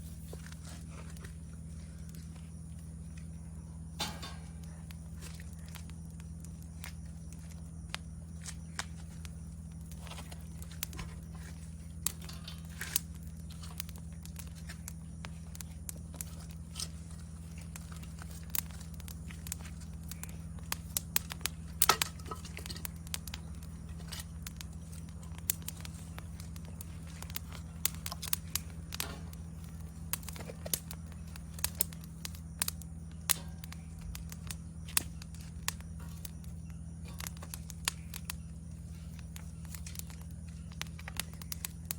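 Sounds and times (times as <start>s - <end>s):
campfire crackling and popping: 0.0s - 41.9s
insects chirping: 0.0s - 41.9s
low steady hum: 0.0s - 41.9s.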